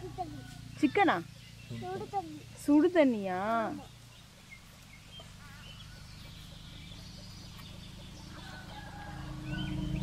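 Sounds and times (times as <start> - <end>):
bird calls: 0.0 - 10.0
low outdoor rumble: 0.0 - 10.0.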